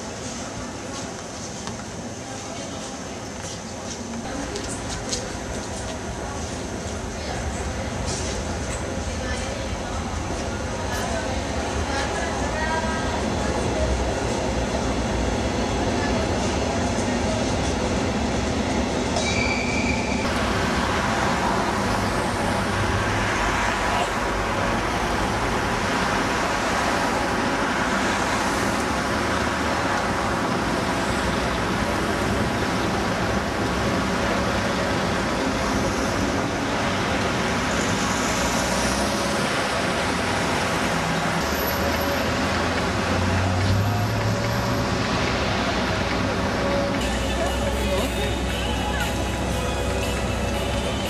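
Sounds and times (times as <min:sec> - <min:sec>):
city street traffic: 0:00.0 - 0:51.0.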